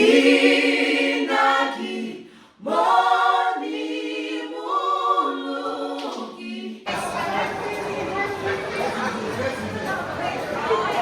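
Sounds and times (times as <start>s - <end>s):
group singing a cappella: 0.0s - 11.0s.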